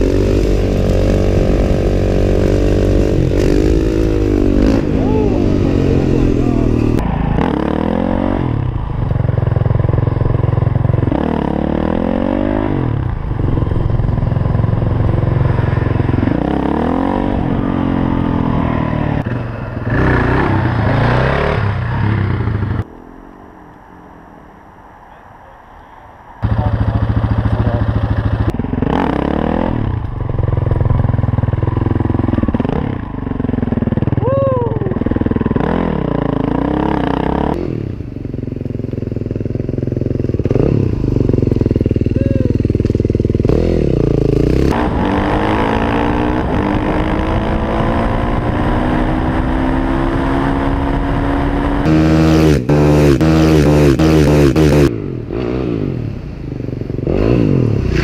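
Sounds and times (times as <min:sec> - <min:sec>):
motorcycle engine revving: 0:00.0 - 0:23.0, 0:26.4 - 0:58.0.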